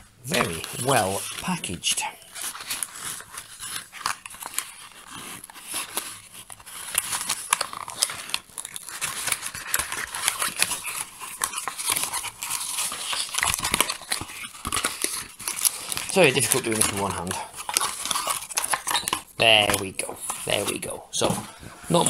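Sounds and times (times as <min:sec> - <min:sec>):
cardboard packaging rustling and scraping: 0:00.0 - 0:22.0.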